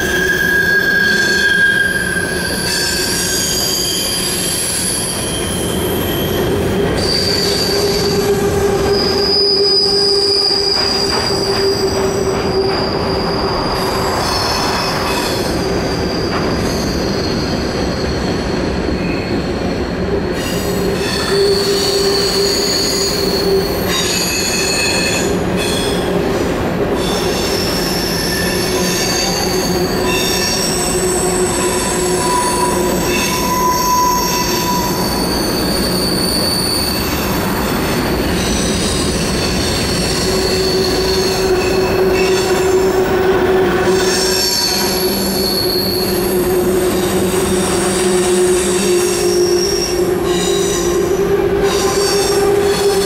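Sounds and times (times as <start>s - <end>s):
train wheels squealing on rail: 0.0s - 53.0s
rumble of wheels on track: 0.8s - 53.0s.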